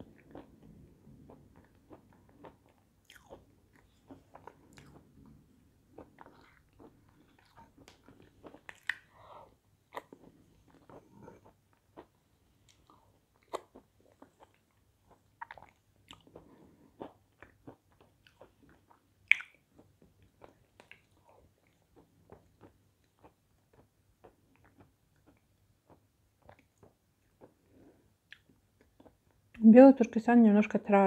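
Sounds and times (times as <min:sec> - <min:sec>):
chewing and mouth sounds: 0:00.0 - 0:27.7.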